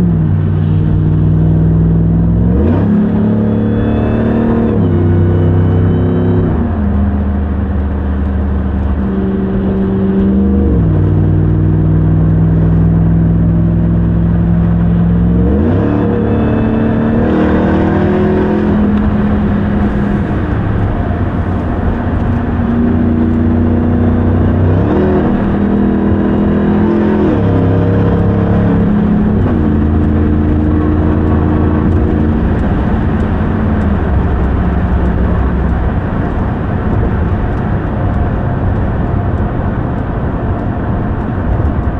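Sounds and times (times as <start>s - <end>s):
pickup truck engine accelerating: 0.0s - 41.9s.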